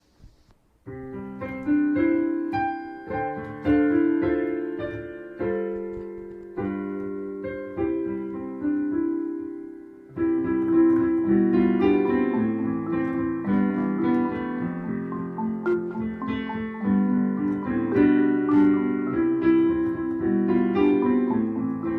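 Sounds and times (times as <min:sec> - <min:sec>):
solo piano melody: 0:00.0 - 0:21.9.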